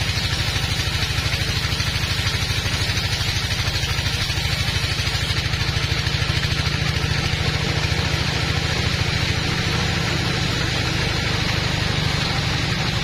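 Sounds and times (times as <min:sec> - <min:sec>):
band saw cutting a log: 0:00.0 - 0:13.0.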